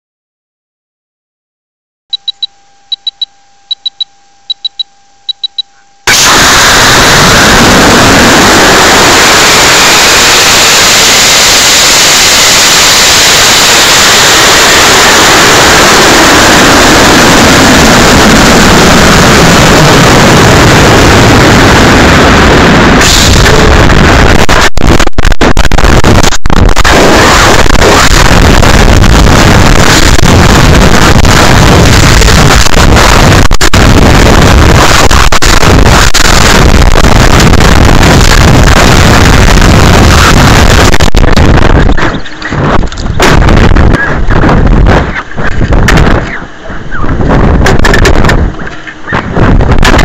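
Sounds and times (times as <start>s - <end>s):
rocket motor roaring: 6.0s - 46.2s.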